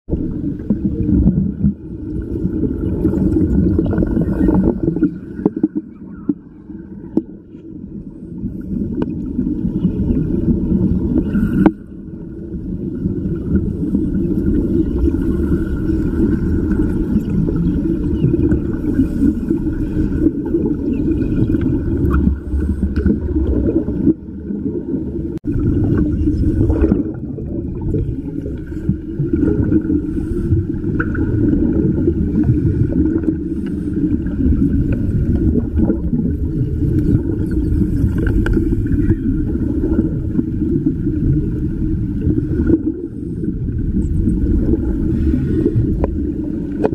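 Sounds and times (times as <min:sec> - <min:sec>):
underwater gas bubbles gurgling: 0:00.1 - 0:46.9.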